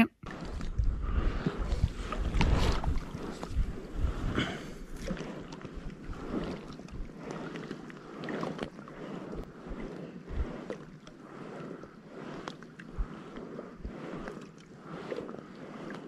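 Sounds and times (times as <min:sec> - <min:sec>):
oars splashing through water: 0:00.2 - 0:16.0.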